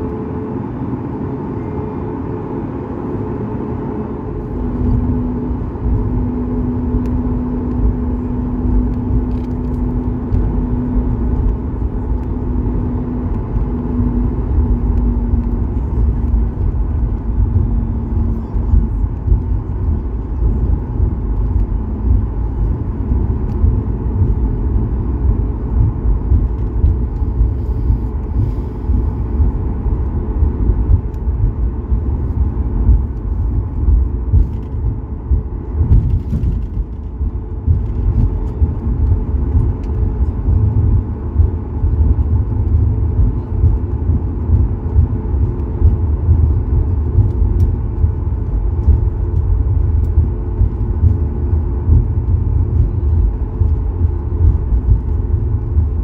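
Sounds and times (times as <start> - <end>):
faint steady hum: 0.0 - 56.0
jet engines rumbling: 0.0 - 56.0
wheels rolling on taxiway: 0.0 - 56.0.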